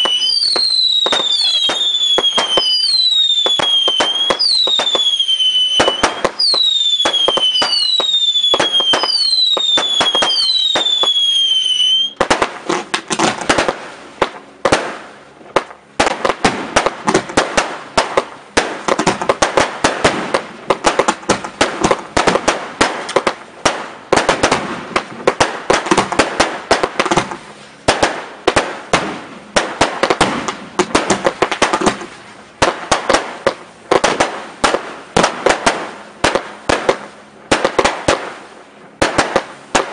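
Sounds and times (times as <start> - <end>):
fireworks cracking and banging: 0.0 - 39.9
fireworks whistling: 0.0 - 39.9.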